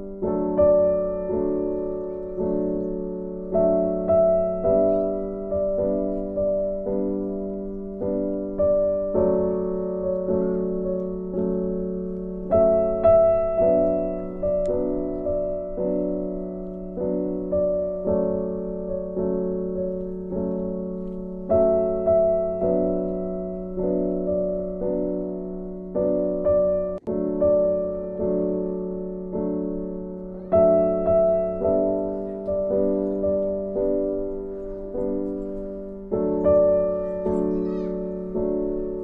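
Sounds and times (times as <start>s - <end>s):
slow gentle piano: 0.0s - 39.0s.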